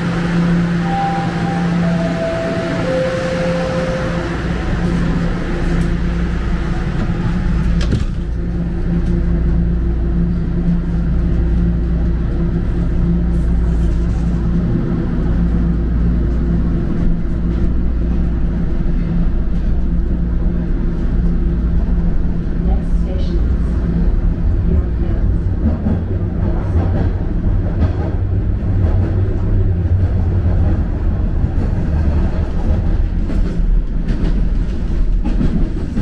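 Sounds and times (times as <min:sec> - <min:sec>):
train low rumble: 0:00.0 - 0:36.0.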